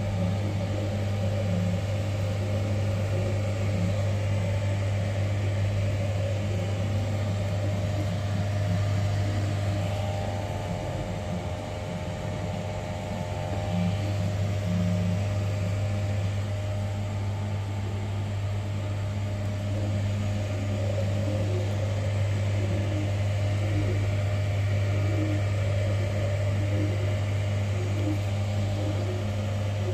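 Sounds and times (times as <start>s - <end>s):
printer fans humming: 0.0s - 29.9s.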